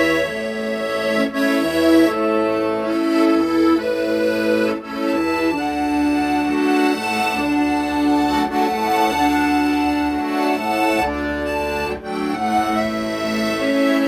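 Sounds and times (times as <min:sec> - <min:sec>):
accordion playing slow melody: 0:00.0 - 0:14.0.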